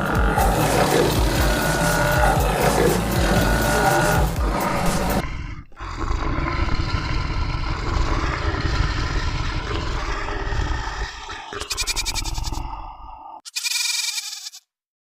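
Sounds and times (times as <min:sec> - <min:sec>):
large animal roaring: 0:00.0 - 0:13.4.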